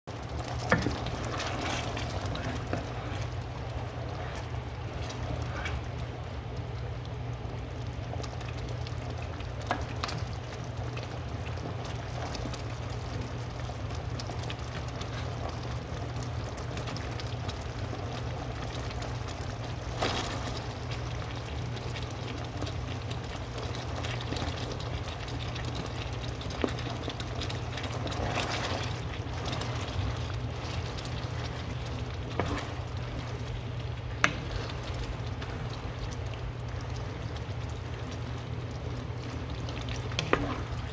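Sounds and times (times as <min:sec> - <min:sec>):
food bubbling and sizzling: 0:00.1 - 0:40.9.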